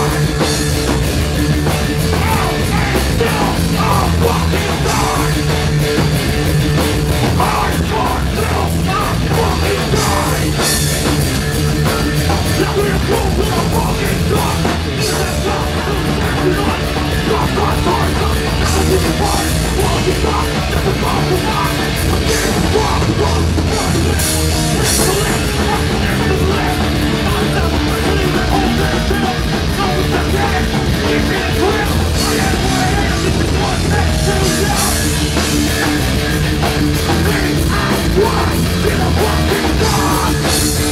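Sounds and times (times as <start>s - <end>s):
bass: 0.0s - 40.9s
distorted electric guitars: 0.0s - 40.9s
drum kit: 0.0s - 40.9s.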